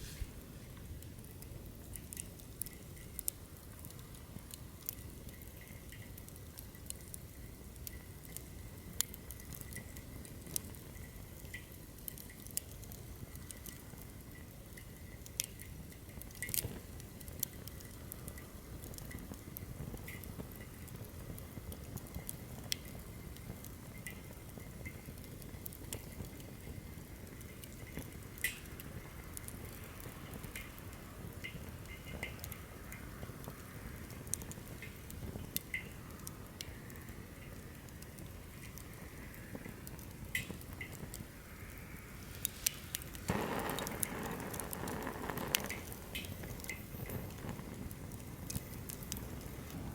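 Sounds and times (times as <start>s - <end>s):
campfire crackling and popping: 0.0s - 49.9s
low rumble of flame: 0.0s - 49.9s.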